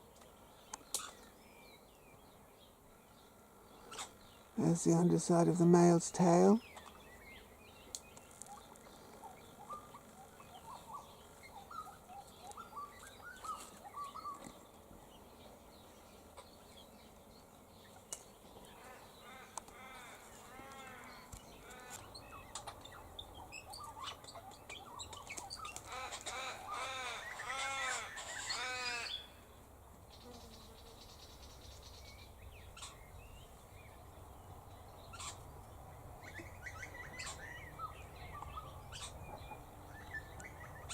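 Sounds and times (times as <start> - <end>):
faint birds chirping: 0.0 - 40.9.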